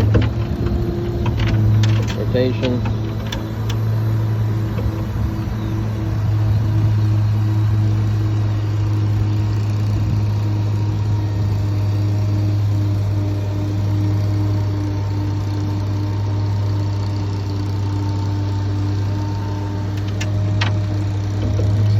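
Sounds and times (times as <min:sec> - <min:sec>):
truck engine humming: 0:00.0 - 0:21.9.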